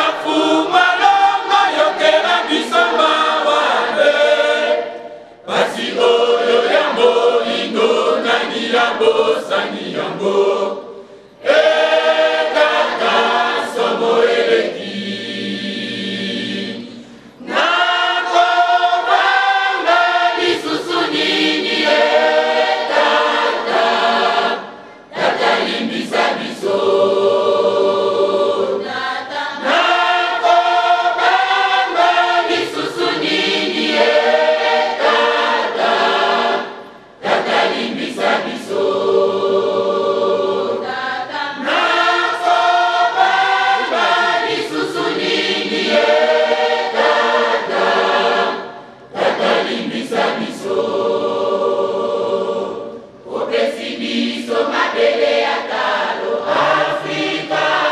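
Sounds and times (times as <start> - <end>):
mixed choir singing: 0.0 - 57.9.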